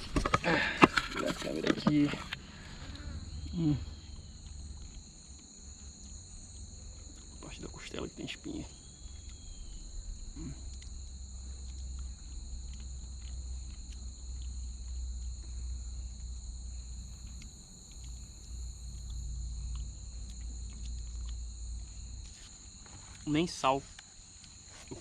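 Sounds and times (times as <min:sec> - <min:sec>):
insects shrilling: 0:00.3 - 0:25.0.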